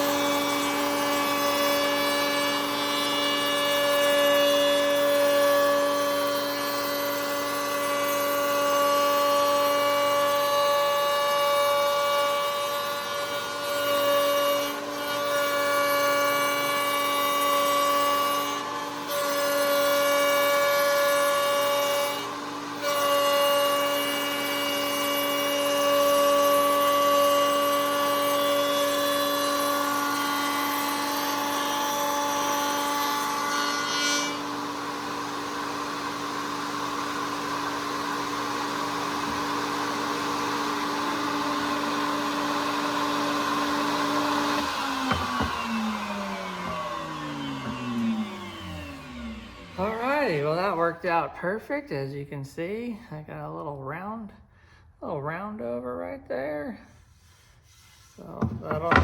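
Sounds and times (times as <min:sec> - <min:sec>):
router whining while cutting wood: 0:00.0 - 0:50.8, 0:58.3 - 0:59.0.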